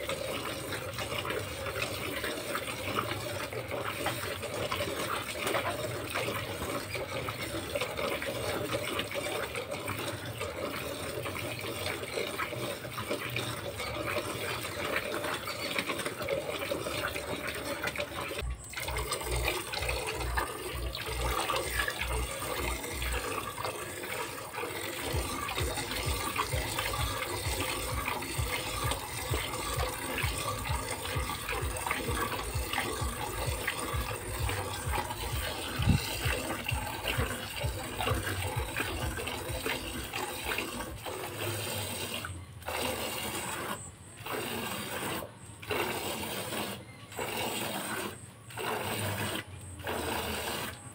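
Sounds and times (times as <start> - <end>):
milk squirting into a bucket: 0.0 - 50.9.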